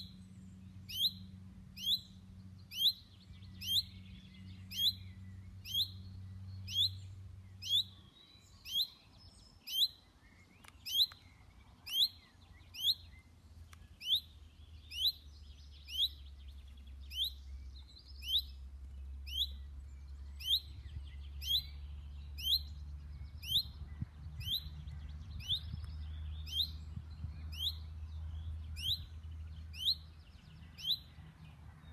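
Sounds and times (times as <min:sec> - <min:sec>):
chaffinch calling: 0:00.8 - 0:28.0, 0:28.7 - 0:31.2.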